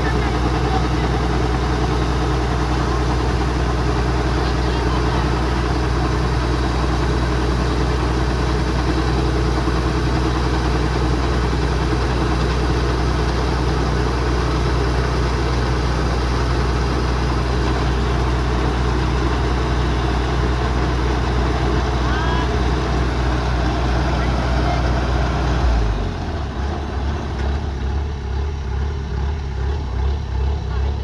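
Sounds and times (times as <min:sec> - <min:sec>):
combine harvester diesel engine: 0:00.0 - 0:31.0.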